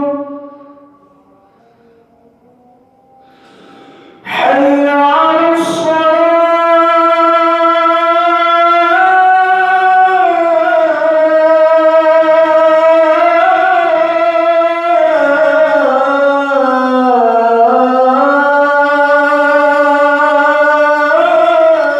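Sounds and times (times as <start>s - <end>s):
man chanting call to prayer: 0.0s - 1.3s, 4.1s - 21.9s.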